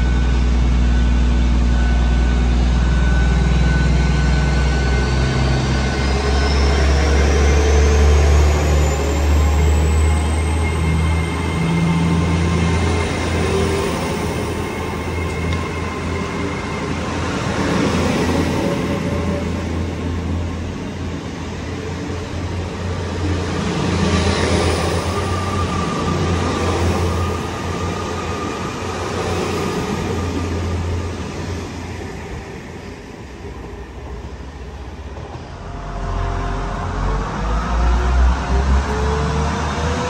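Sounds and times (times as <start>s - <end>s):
train engine hum: 0.0s - 40.0s
train wheels rumbling on rails: 0.0s - 40.0s.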